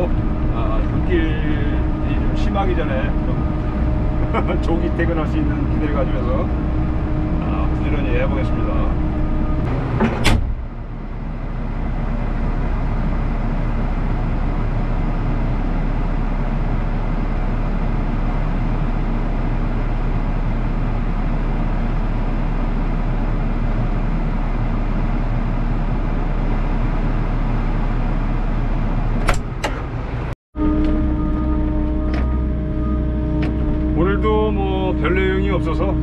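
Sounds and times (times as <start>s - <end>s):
diesel engine running steadily: 0.0s - 36.0s.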